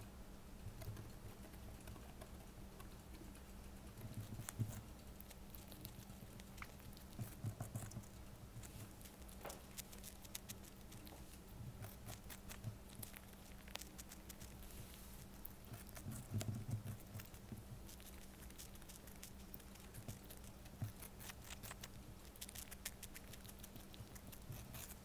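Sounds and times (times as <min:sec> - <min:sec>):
steady low hum: 0:00.0 - 0:25.0
hamster gnawing cucumber: 0:00.5 - 0:25.0.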